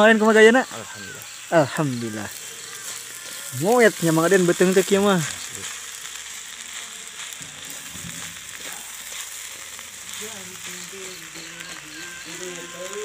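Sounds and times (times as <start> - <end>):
rice sizzling in a wok: 0.0 - 13.0
spatula stirring: 1.2 - 13.0.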